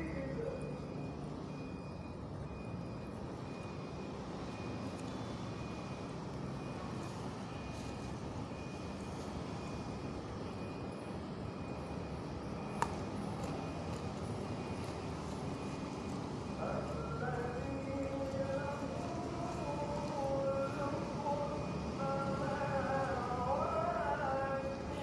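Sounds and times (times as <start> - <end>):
faint high beeps: 0.0 - 25.0.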